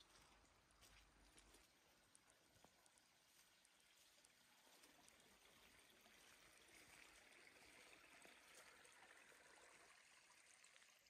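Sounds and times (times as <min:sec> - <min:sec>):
faint stream trickling: 0:00.0 - 0:11.0.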